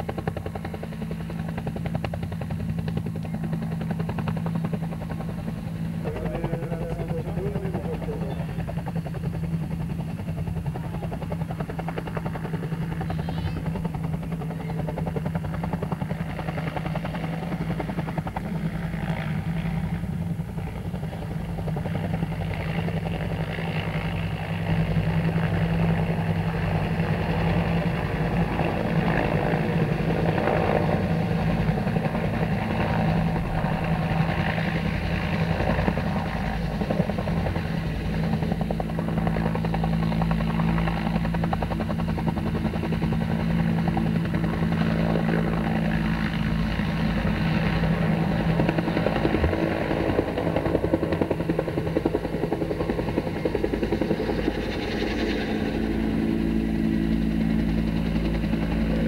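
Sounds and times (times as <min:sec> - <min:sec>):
helicopter engine hum: 0:00.0 - 0:59.0
helicopter rotor beating: 0:00.0 - 0:59.0.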